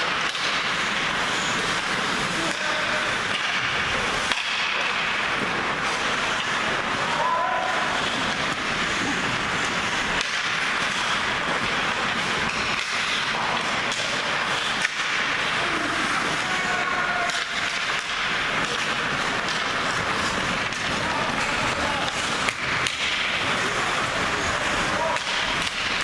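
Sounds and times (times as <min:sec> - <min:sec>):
hockey sticks and puck clacking: 0:00.0 - 0:26.0
skates scraping on ice: 0:00.0 - 0:26.0.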